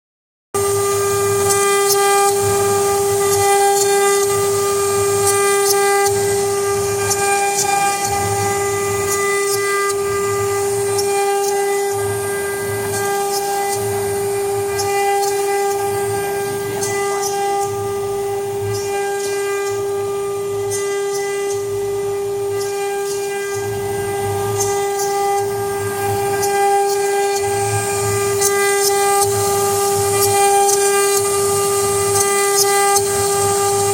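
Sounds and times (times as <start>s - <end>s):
router spindle whine: 0.6s - 33.9s.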